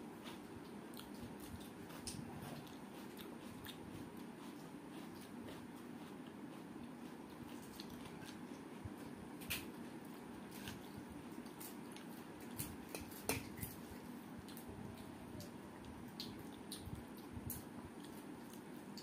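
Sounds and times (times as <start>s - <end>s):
steady low hum: 0.0s - 19.0s
person chewing: 0.2s - 19.0s.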